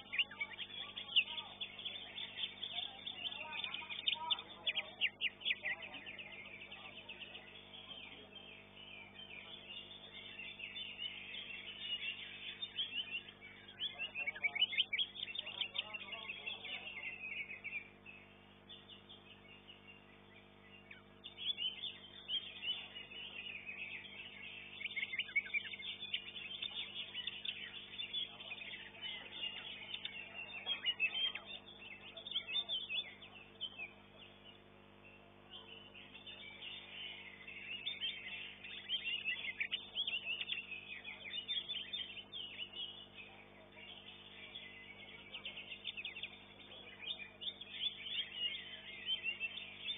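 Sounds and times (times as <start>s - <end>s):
bird singing chattering notes: 0.0s - 49.9s.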